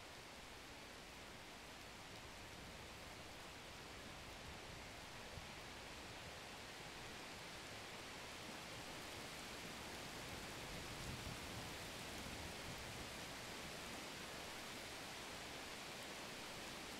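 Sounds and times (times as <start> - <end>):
faint steady hiss: 0.0 - 16.9.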